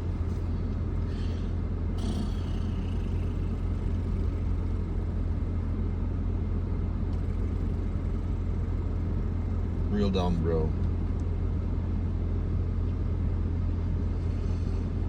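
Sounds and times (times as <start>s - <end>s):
engine and road rumble in car: 0.0s - 15.0s.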